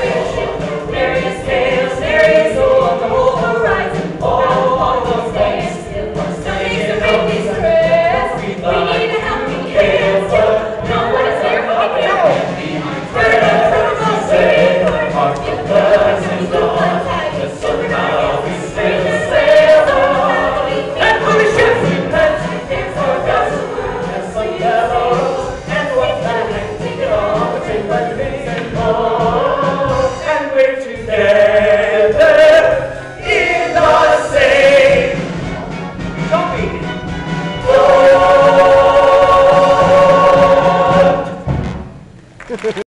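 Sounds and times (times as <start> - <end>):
cast singing in chorus: 0.0 - 35.2, 37.6 - 41.4.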